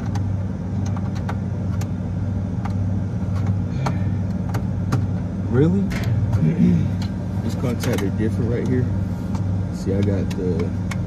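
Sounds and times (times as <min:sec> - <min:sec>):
refrigeration machinery humming: 0:00.0 - 0:11.0.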